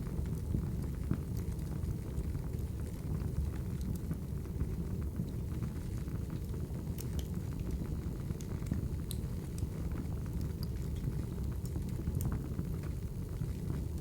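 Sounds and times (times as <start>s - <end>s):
wood fire burning: 0.0s - 14.0s.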